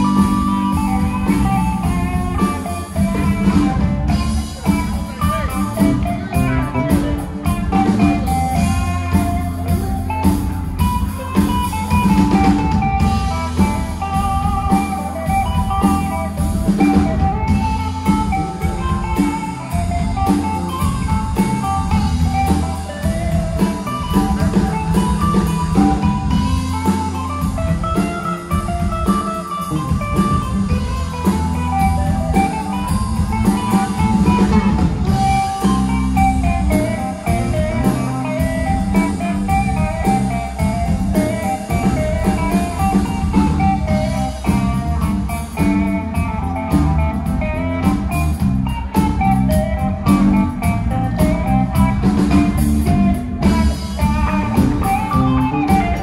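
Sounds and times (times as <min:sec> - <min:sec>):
blues band playing: 0:00.0 - 0:56.0.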